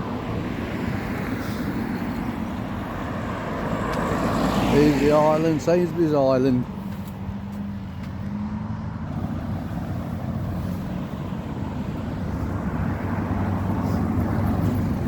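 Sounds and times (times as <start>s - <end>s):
car engines humming: 0.0s - 15.0s.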